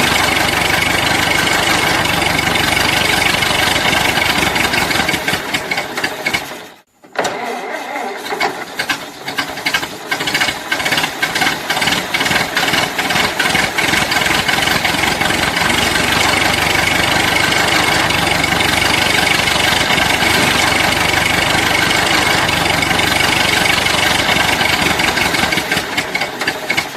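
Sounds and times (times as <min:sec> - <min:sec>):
old car engine running: 0:00.0 - 0:06.8, 0:08.1 - 0:26.9
engine cranking and sputtering: 0:00.0 - 0:26.9.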